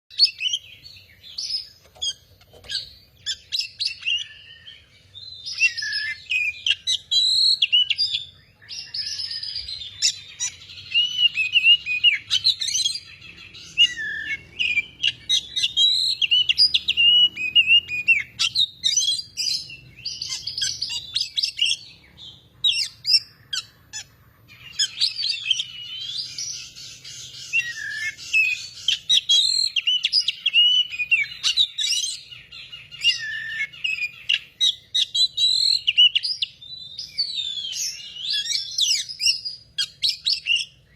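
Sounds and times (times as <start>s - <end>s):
magpie-robin singing: 0.1s - 40.9s.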